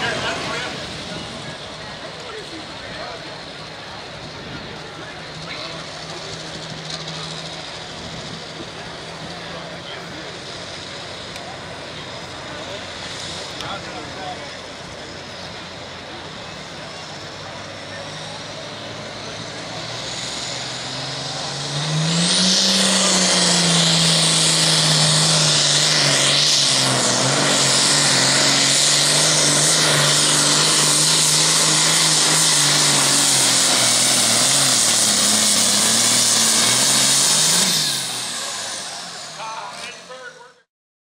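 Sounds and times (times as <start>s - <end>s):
pulling tractor diesel engine: 0.0s - 40.7s.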